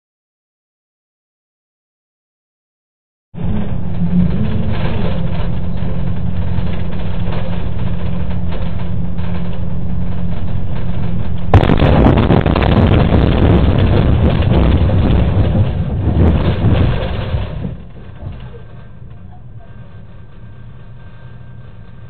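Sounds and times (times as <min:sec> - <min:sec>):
bus engine and road noise: 0:03.4 - 0:22.0
rattling rumble: 0:03.4 - 0:22.0.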